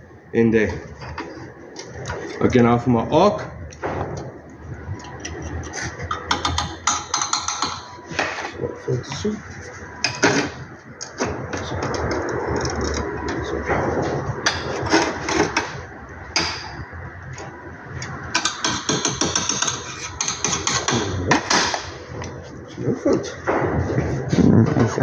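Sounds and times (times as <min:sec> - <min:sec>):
welding arc crackling and sputtering: 0:03.6 - 0:08.3, 0:08.9 - 0:25.0.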